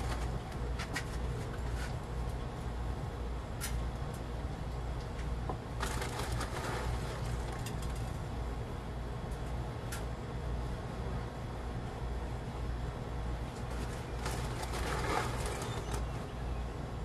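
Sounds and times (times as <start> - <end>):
crackling rustle of soil: 0.0 - 10.1, 13.4 - 17.0
steady low hum: 0.0 - 17.0.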